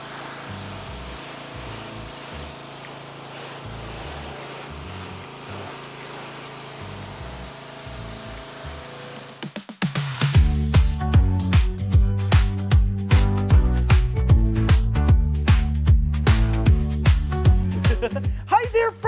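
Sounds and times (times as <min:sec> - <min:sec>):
pressure washer spray hissing: 0:00.0 - 0:09.5, 0:10.4 - 0:18.4.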